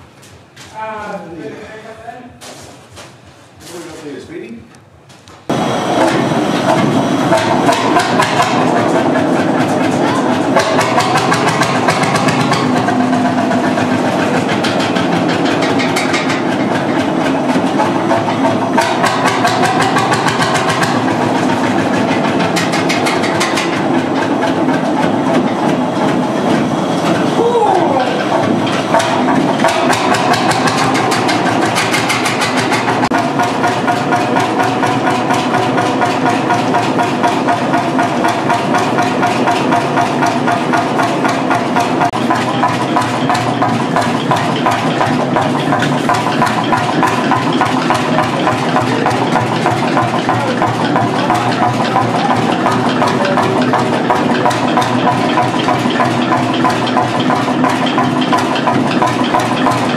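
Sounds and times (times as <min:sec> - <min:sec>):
tractor engine running steadily: 0:05.4 - 0:59.9.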